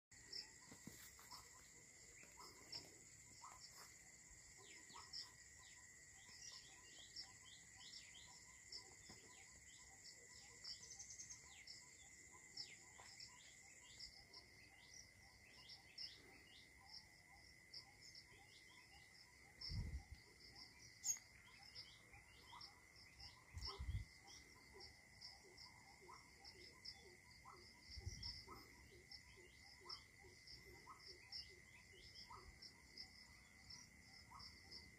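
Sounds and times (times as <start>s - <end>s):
insects droning: 0.1s - 34.9s
small birds chirping: 0.1s - 34.9s.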